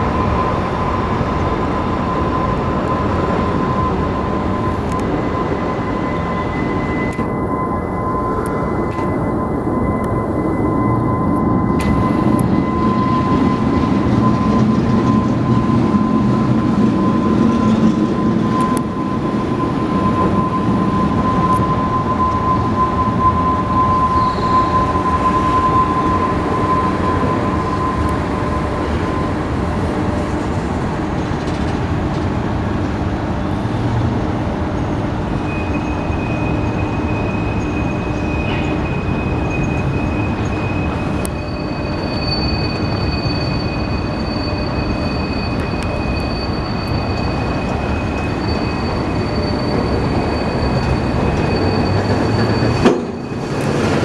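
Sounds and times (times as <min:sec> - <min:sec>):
freight cars rumbling on rails: 0:00.0 - 0:54.0
high wheel squeals: 0:00.0 - 0:54.0.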